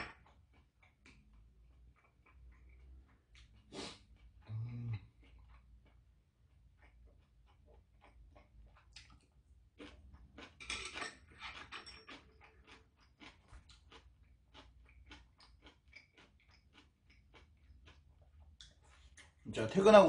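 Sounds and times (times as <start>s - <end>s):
person chewing food: 0.0s - 19.5s.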